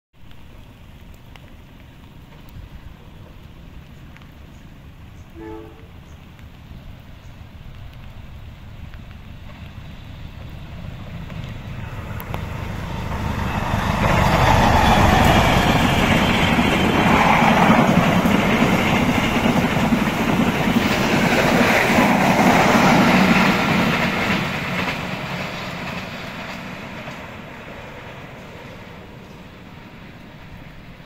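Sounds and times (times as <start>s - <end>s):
train passing at speed: 2.3s - 31.0s.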